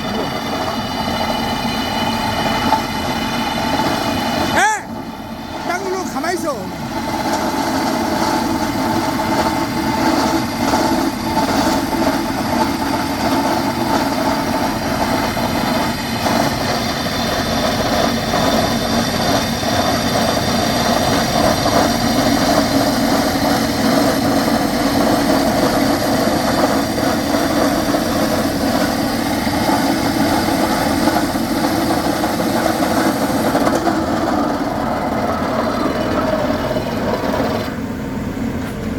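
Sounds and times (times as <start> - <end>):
hydraulic rock drill running: 0.0 - 38.9.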